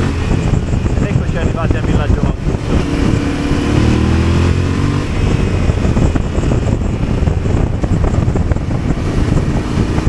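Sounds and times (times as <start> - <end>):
motorcycle engine: 0.0 - 10.0
wind buffeting microphone: 0.0 - 10.0.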